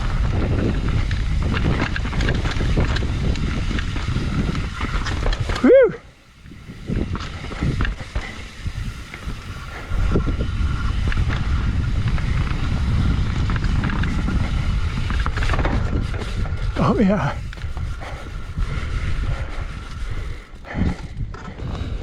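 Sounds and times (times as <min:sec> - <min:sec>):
bike tyres and frame clattering: 0:00.0 - 0:22.0
wind rushing on microphone: 0:00.0 - 0:22.0.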